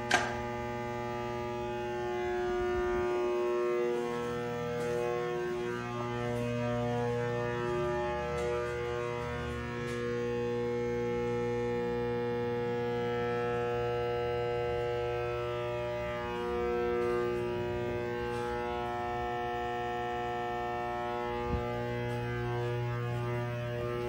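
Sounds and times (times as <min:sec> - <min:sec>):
transformer humming: 0:00.0 - 0:24.0.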